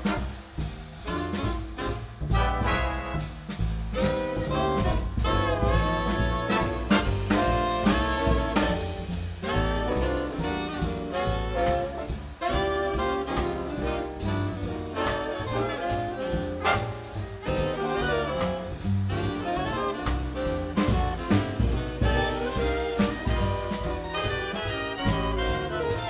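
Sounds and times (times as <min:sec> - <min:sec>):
drum and cymbal accents: 0:00.0 - 0:26.0
jazz big band swing: 0:00.0 - 0:26.0.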